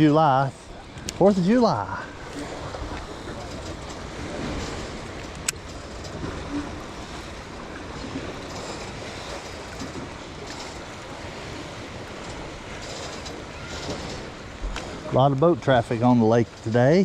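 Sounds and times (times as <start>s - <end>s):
lake water washing: 0.0s - 17.0s.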